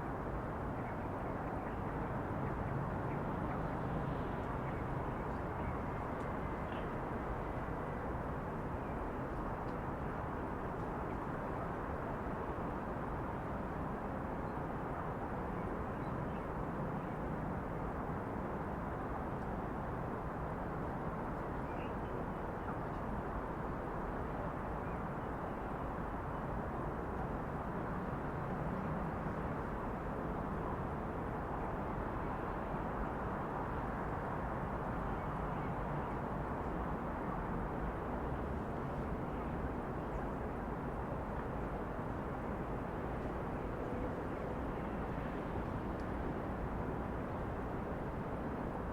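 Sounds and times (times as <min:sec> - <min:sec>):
distant traffic hum: 0:00.0 - 0:14.0, 0:14.8 - 0:48.9.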